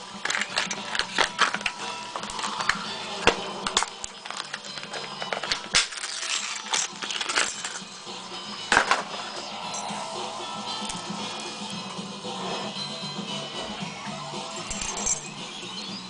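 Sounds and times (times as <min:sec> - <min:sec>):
faint music: 0:00.0 - 0:16.0.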